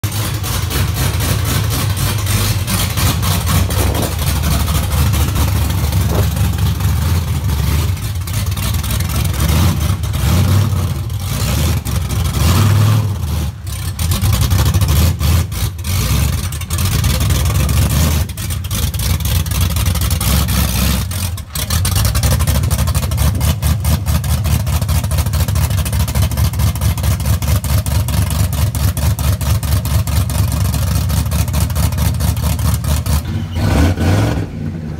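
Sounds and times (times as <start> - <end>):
truck engine idling and revving: 0.0 - 34.9.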